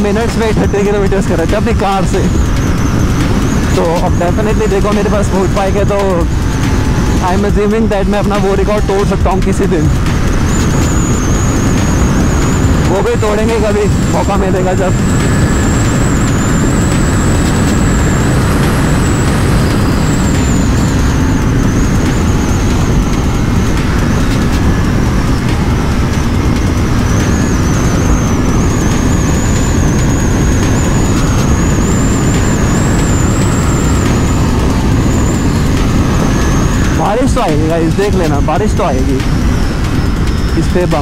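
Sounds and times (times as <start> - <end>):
motorcycle engine cruising: 0.0 - 41.0
wind rush on microphone: 0.0 - 41.0.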